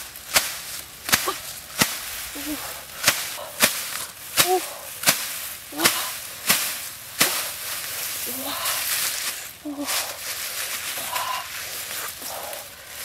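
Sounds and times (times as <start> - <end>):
dry grass snapping swish: 0.0 - 13.0.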